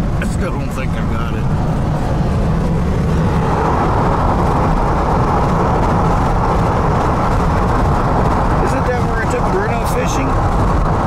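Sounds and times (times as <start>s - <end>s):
road rumble: 0.0s - 11.0s
wind rushing through car window: 0.0s - 11.0s.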